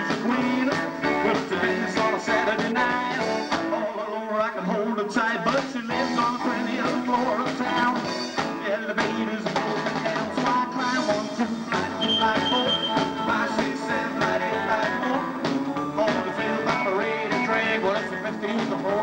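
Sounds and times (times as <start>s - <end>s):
drum kit: 0.0s - 3.8s, 5.4s - 19.0s
live rock band playing: 0.0s - 4.0s, 4.8s - 19.0s
electric guitar: 0.0s - 19.0s.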